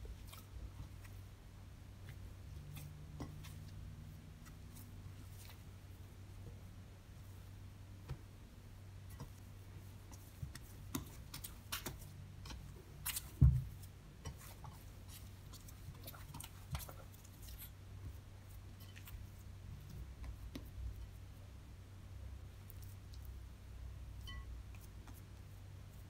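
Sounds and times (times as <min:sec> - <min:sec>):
dough squelching: 0:00.0 - 0:26.0.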